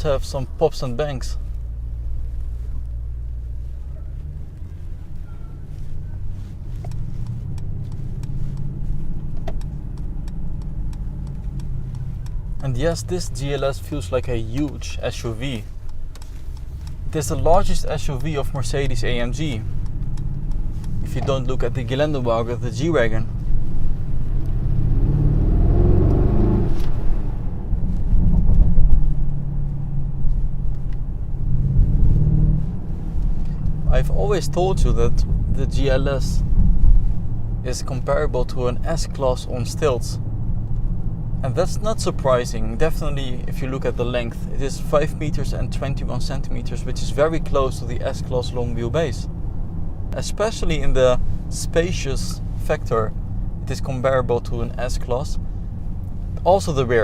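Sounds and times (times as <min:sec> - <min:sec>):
car engine drone from inside: 0:00.0 - 0:57.0
exhaust crackles: 0:00.0 - 0:57.0.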